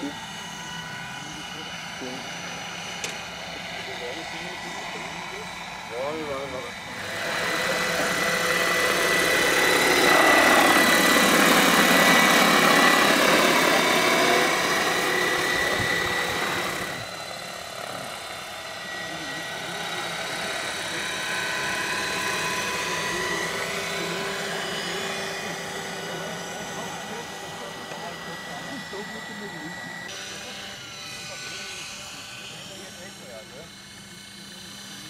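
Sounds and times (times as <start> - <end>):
rotor blades whooshing: 0.0 - 34.0
model helicopter whine: 0.0 - 35.0.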